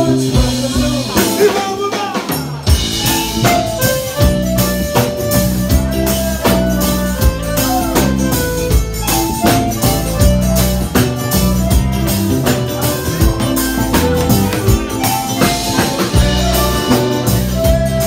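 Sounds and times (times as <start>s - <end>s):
accordion melody: 0.0s - 18.0s
bass drum beat: 0.0s - 18.0s
drum kit: 0.0s - 18.0s
guitars: 0.0s - 18.0s.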